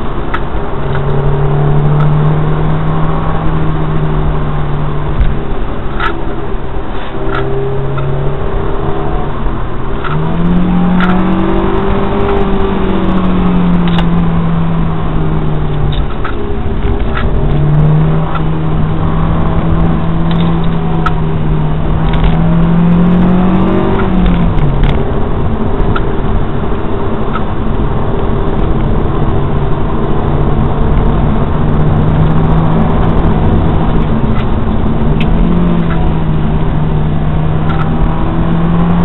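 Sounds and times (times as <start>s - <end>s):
car engine revving in cabin: 0.0s - 39.0s.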